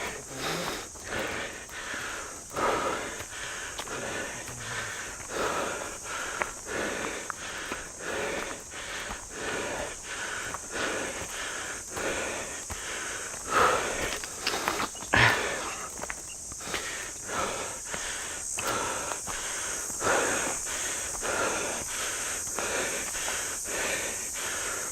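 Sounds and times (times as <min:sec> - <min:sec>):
person panting heavily: 0:00.0 - 0:24.9.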